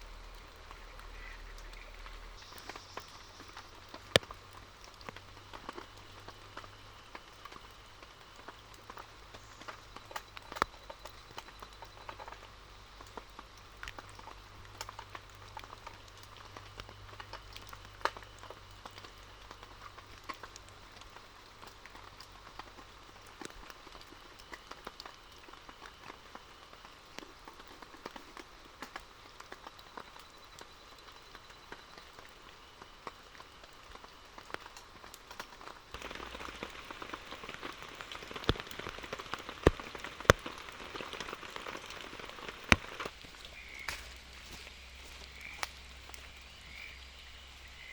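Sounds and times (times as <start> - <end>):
rain falling: 0.0 - 47.9
drops ticking on a surface: 0.3 - 46.9.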